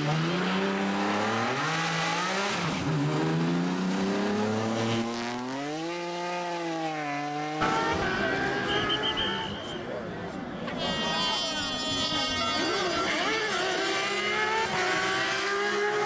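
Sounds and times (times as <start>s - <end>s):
rally car engine pulling hard: 0.0s - 9.0s, 10.7s - 16.0s.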